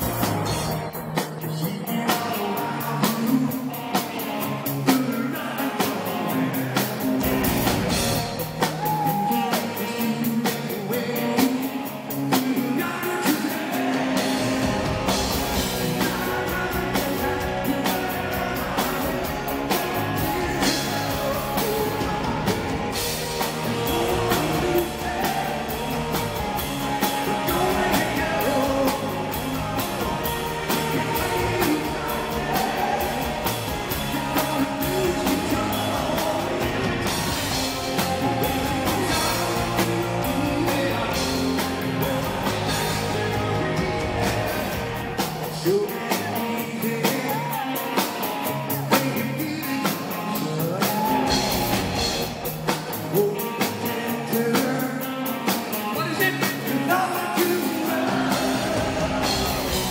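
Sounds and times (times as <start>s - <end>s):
bass guitar: 0.0s - 59.9s
drums: 0.0s - 59.9s
electric guitars: 0.0s - 59.9s
man singing lead: 0.0s - 59.9s.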